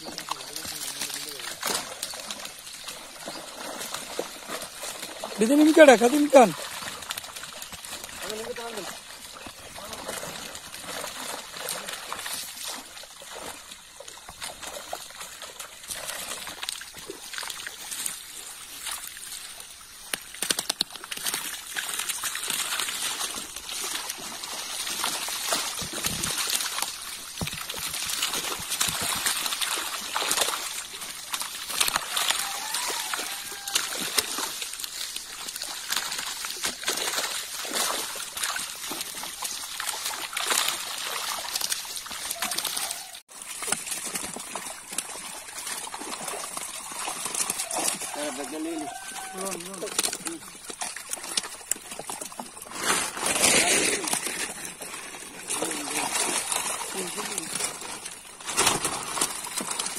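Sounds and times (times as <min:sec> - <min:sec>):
fish splashing in water: 0:00.0 - 0:59.9.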